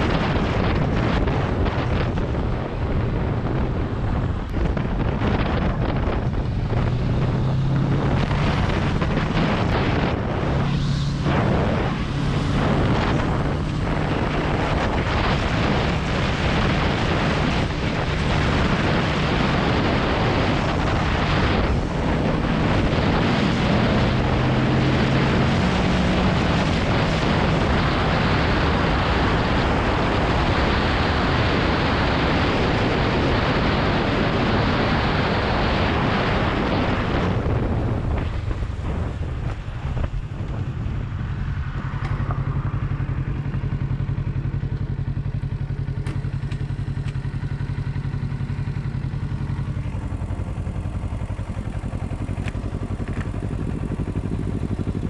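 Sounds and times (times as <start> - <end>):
motorcycle engine humming: 0.0 - 55.0
wind rushing over microphone: 0.0 - 55.0.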